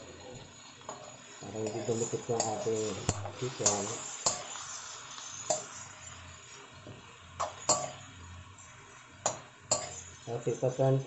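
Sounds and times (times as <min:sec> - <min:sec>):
metal spatula scraping wok: 0:00.0 - 0:10.8.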